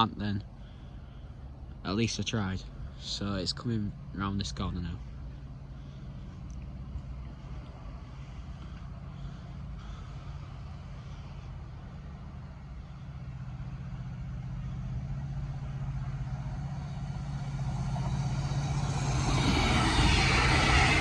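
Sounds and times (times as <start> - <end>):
diesel locomotive engine drone: 0.0 - 21.0
wheel and rail noise: 0.0 - 21.0.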